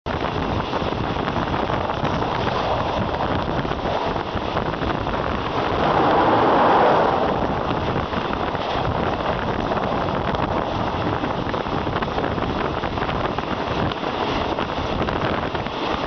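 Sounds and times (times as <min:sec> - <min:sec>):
wind rush on microphone: 0:00.1 - 0:16.0.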